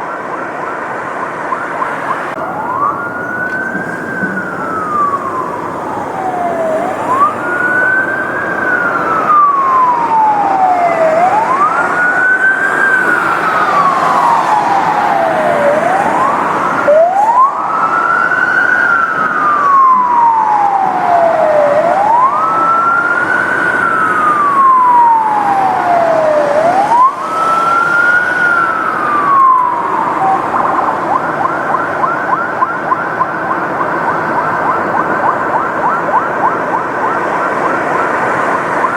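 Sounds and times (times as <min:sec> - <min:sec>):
police siren wailing: 0:00.0 - 0:38.9
rushing background noise: 0:00.0 - 0:38.9
siren rapid warble: 0:00.0 - 0:38.9.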